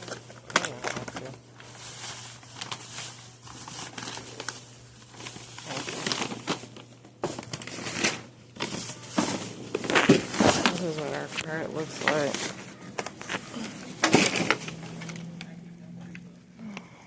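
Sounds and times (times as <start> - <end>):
packaging crinkling and rustling: 0.0 - 16.9.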